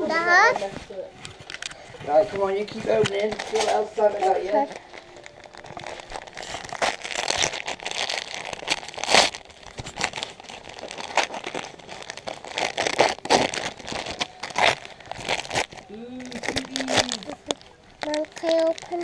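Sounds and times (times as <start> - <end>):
wrapping paper tearing and crumpling: 1.3 - 19.0.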